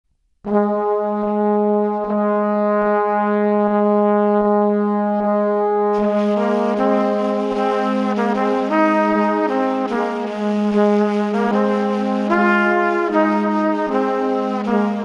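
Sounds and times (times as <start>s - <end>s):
background music with held note: 0.5s - 15.0s.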